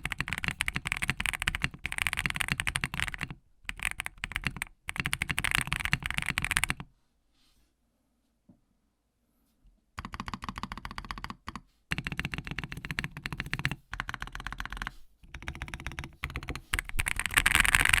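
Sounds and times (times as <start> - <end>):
fast typing on mechanical keyboard: 0.0 - 6.8, 10.0 - 18.0.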